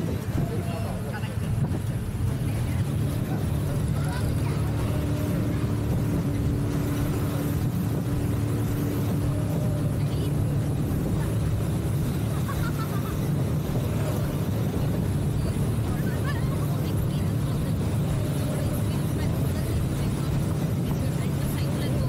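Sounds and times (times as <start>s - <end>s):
auto rickshaw engine drone: 0.0s - 22.0s.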